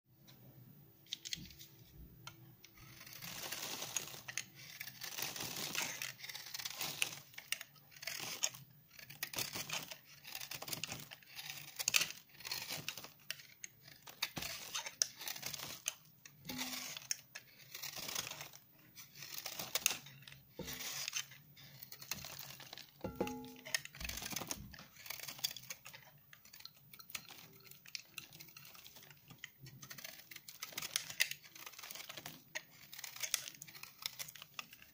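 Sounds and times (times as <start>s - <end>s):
knife scraping hard soap: 2.6s - 34.9s.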